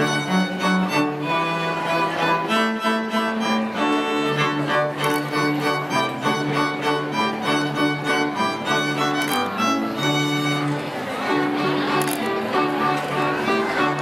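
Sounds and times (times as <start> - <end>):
cello long low notes: 0.0 - 14.0
higher bowed string melody: 0.0 - 14.0.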